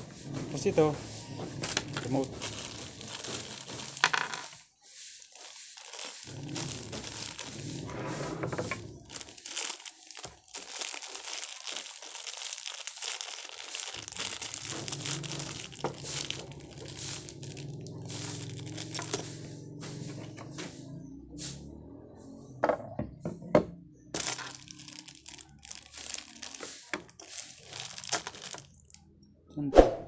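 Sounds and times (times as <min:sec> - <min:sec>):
plastic packaging crinkling: 0:00.0 - 0:20.5, 0:24.1 - 0:29.0.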